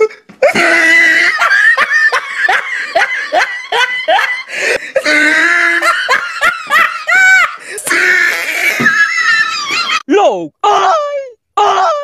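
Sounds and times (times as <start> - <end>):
person laughing loudly: 0.0 - 10.0.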